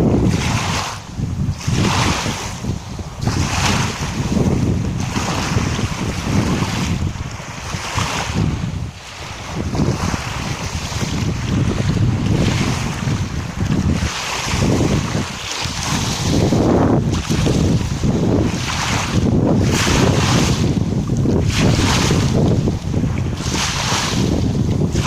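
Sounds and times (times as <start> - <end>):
small waves splashing: 0.0 - 25.0
wind buffeting microphone: 0.0 - 25.0.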